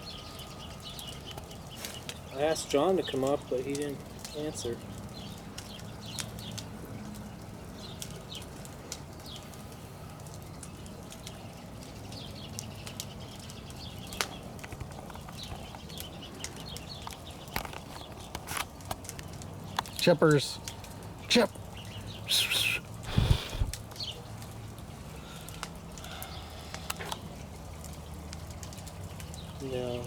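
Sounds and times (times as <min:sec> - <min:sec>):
campfire crackling and popping: 0:00.3 - 0:30.0.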